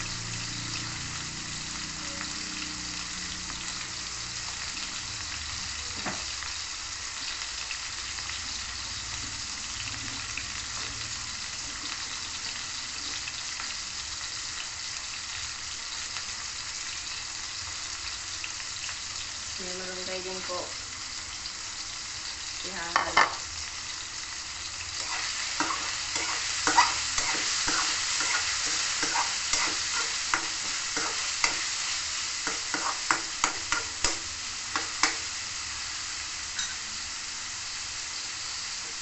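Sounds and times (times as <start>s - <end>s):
pork sizzling in a wok: 0.0s - 39.0s.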